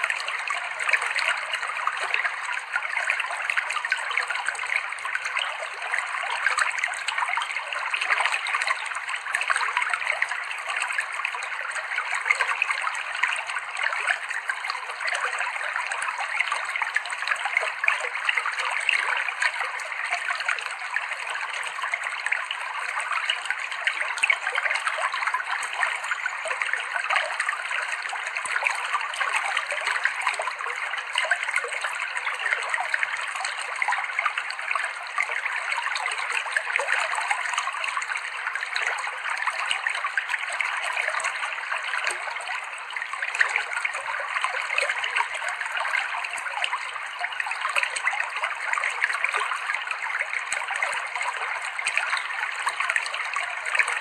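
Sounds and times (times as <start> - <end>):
water flowing over rocks: 0.0 - 54.0.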